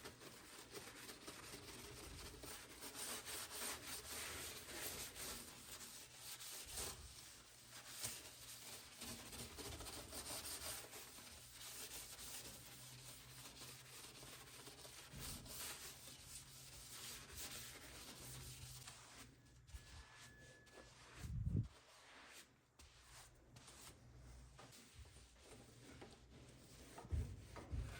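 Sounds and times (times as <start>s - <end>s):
hand scrubbing kitchen surface: 0.0s - 27.9s.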